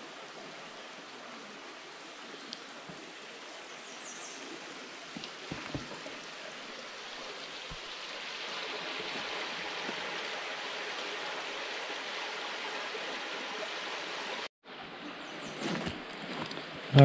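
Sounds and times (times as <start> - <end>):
creek water rushing: 0.0 - 14.5.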